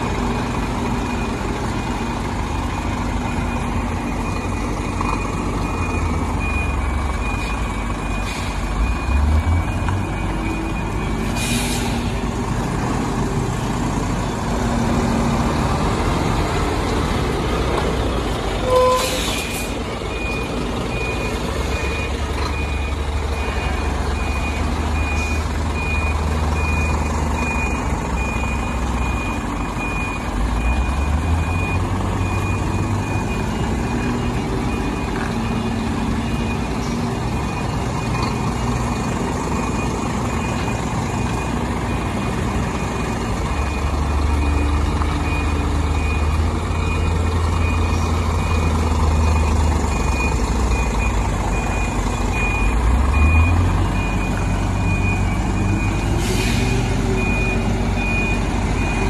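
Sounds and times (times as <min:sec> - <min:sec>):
truck diesel engine rumbling: 0:00.0 - 0:59.0
reversing alarm beeping: 0:00.4 - 0:12.3, 0:18.6 - 0:59.0.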